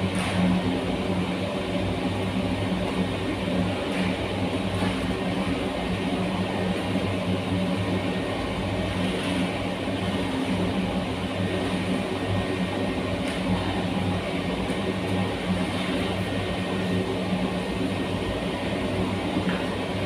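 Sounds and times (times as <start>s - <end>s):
furnace burner roaring: 0.0s - 20.0s
low even hum: 0.0s - 20.0s.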